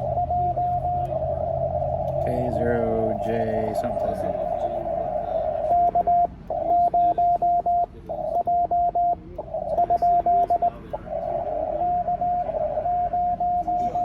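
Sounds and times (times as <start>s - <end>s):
morse code tones: 0.0s - 14.0s.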